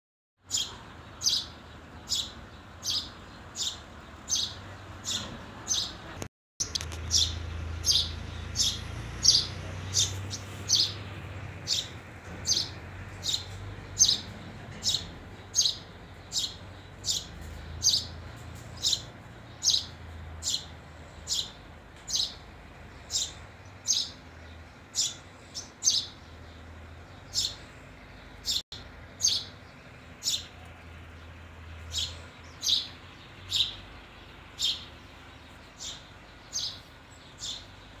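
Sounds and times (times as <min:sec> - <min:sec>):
sparrow chirping: 0:00.4 - 0:38.0.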